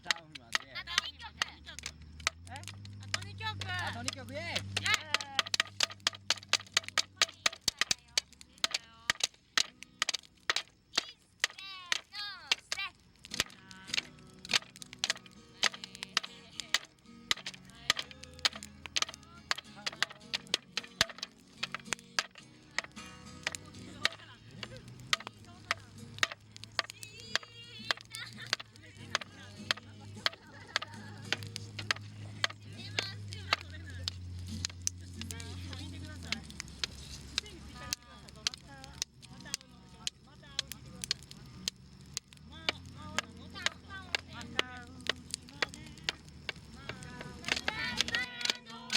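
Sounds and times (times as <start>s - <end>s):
bonfire crackling and popping: 0.0s - 48.9s.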